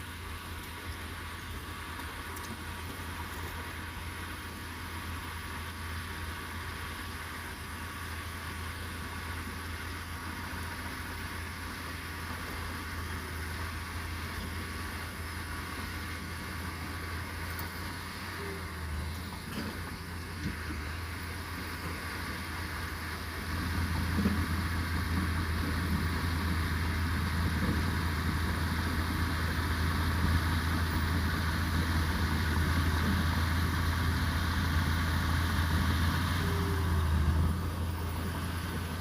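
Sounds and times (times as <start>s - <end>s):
heavy diesel engine humming: 0.0s - 39.0s.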